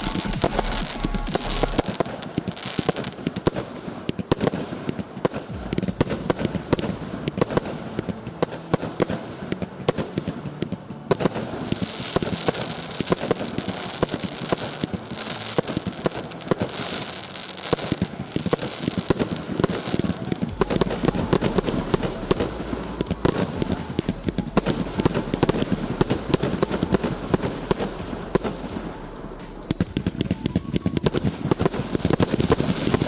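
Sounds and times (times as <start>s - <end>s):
crackling firework hiss: 0.0s - 33.0s
fireworks launching and bursting: 0.0s - 33.0s.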